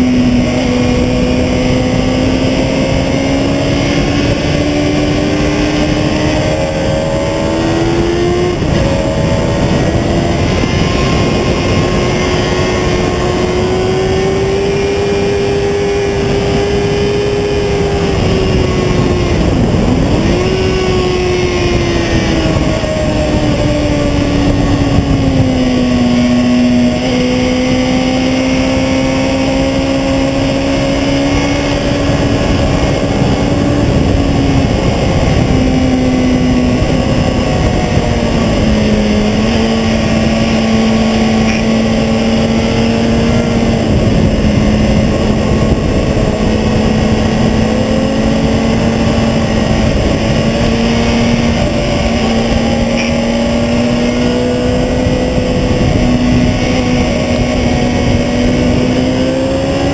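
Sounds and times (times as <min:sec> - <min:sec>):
heavy wind: 0:00.0 - 0:59.9
motorcycle engine running: 0:00.0 - 0:59.9
tyre-road rush: 0:00.0 - 0:59.9.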